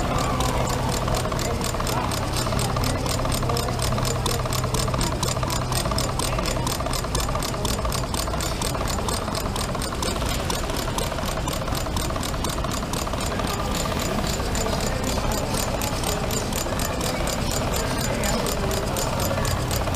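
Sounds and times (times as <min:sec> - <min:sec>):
model engine clattering: 0:00.0 - 0:19.9.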